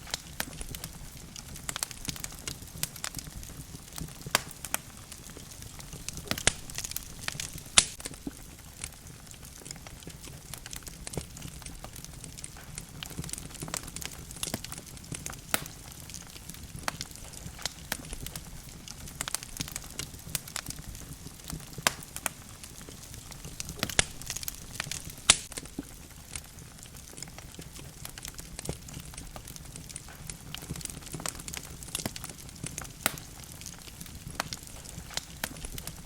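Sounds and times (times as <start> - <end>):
low rumble of flames: 0.0 - 36.0
wood logs crackling and popping: 0.0 - 36.0.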